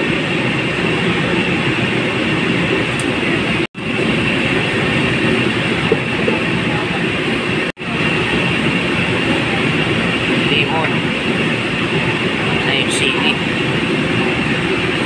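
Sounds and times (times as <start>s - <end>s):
mechanical rumble with hiss: 0.0s - 15.0s.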